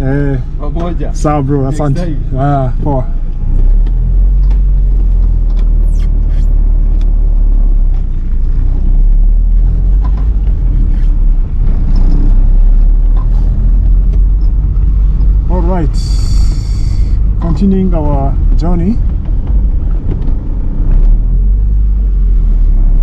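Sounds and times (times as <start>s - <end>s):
car engine: 0.0s - 23.0s
road rumble: 0.0s - 23.0s.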